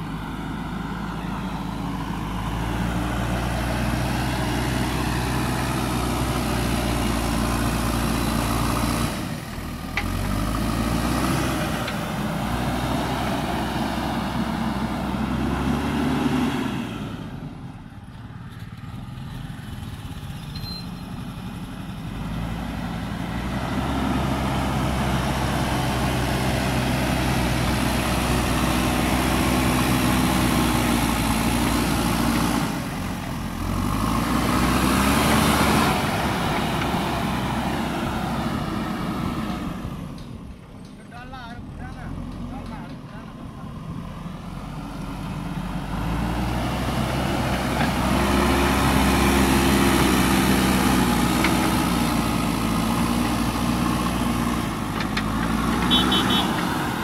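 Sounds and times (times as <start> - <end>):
diesel engine working under load: 0.0 - 57.0.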